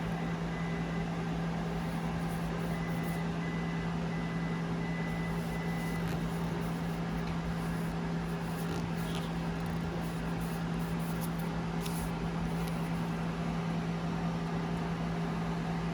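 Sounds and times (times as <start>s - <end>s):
printer humming: 0.0s - 15.9s.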